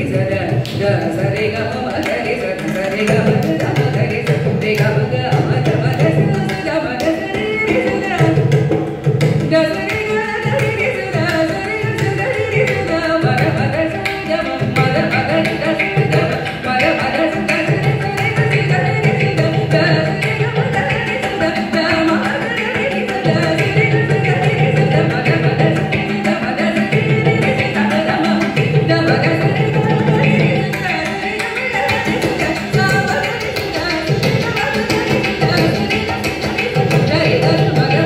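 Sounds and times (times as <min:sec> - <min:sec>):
violin: 0:00.0 - 0:38.0
woman singing: 0:00.0 - 0:38.0.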